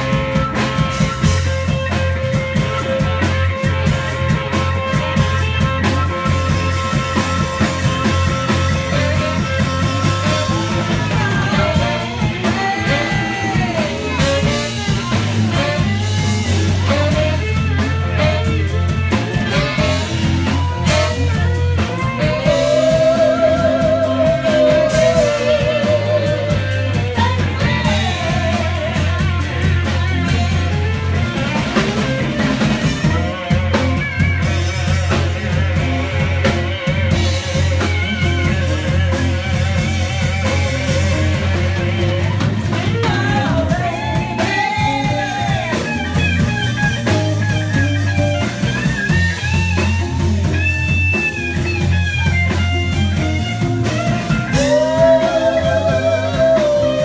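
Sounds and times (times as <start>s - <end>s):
drum kit: 0.0s - 57.0s
electric guitar: 0.0s - 57.0s
keyboard: 0.0s - 57.0s
low bass line: 0.0s - 57.0s.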